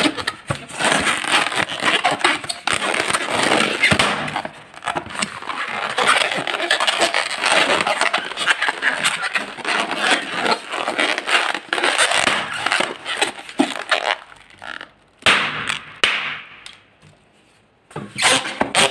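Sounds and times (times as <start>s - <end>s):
rubber balloons rubbing and crackling: 0.0s - 16.1s, 18.1s - 18.9s.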